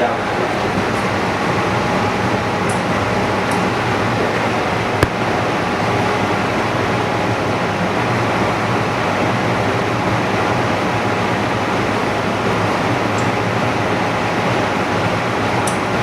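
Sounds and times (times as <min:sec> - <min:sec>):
faint machinery hum: 0:00.0 - 0:16.0.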